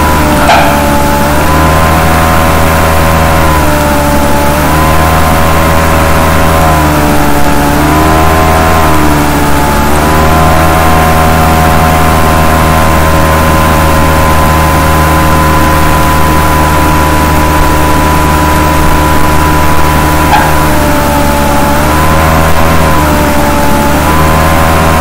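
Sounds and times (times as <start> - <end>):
loud mechanical engine drone: 0.0 - 25.0.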